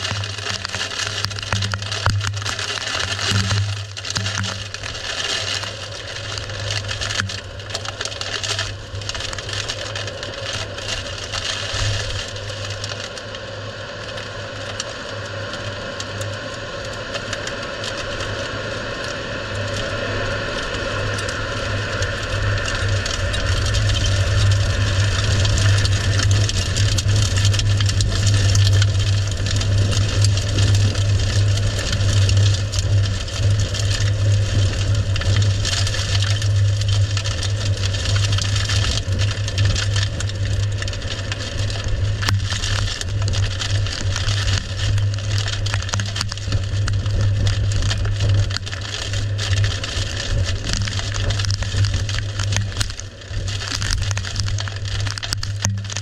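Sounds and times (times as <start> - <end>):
rattling and cracking: 0.0 - 13.4, 20.6 - 56.0
steady low drone: 0.0 - 56.0.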